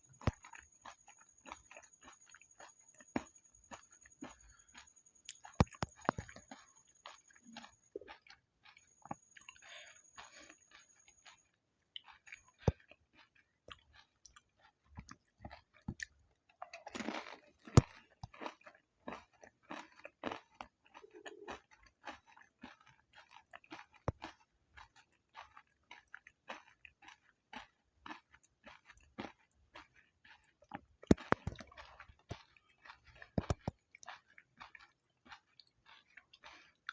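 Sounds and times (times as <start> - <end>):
wet chewing: 0.0 - 36.9.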